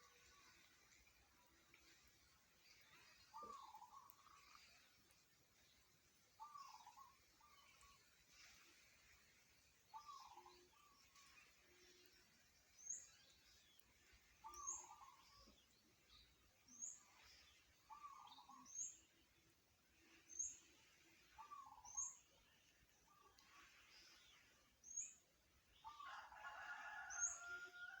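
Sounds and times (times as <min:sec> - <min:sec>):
faint background noise: 0:00.0 - 0:28.0.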